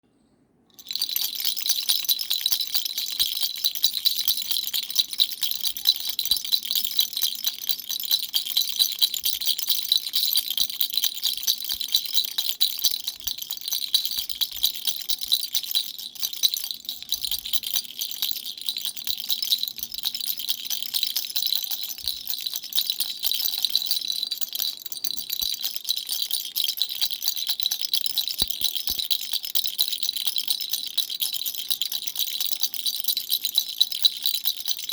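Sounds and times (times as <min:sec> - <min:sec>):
baby rattle shaking: 0:00.8 - 0:34.9.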